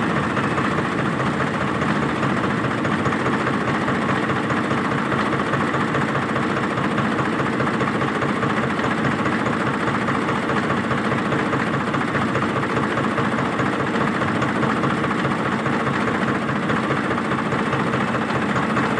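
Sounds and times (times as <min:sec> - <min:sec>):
diesel engine running under load: 0:00.0 - 0:18.9.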